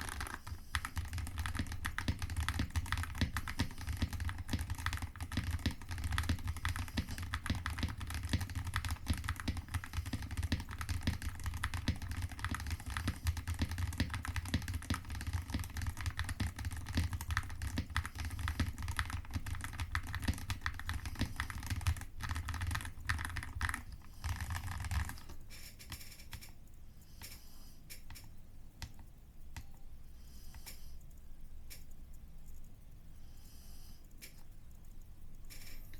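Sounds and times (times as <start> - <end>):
mechanical keyboard typing: 0.0 - 26.6, 27.2 - 29.8.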